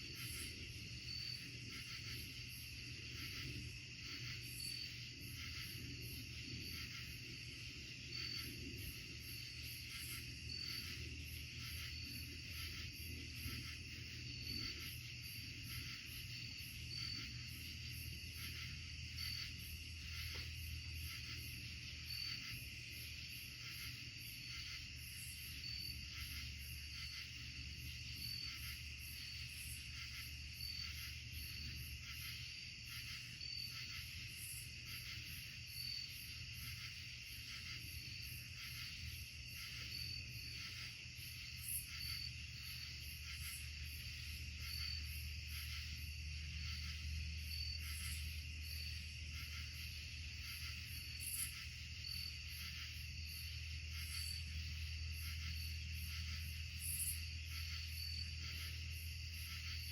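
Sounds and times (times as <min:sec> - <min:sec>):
short insect chirp: 0:00.1 - 0:59.9.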